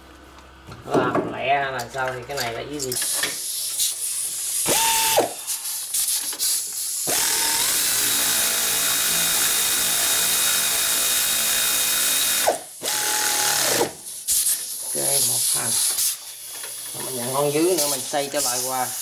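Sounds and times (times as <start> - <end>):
pneumatic air ratchet: 2.9 - 19.0.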